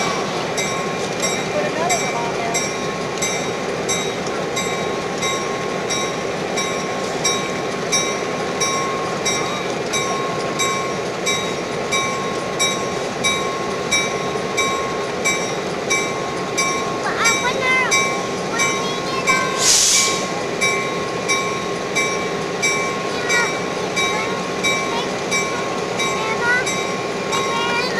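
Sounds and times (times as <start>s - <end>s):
locomotive bell ringing: 0.0s - 27.9s
train running: 0.0s - 27.9s.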